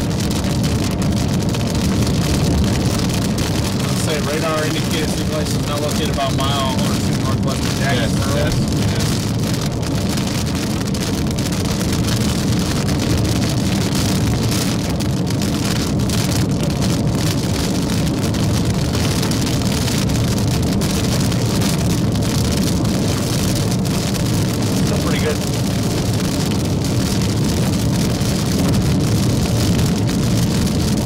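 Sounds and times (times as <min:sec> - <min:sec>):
road and engine noise in car: 0:00.0 - 0:31.0.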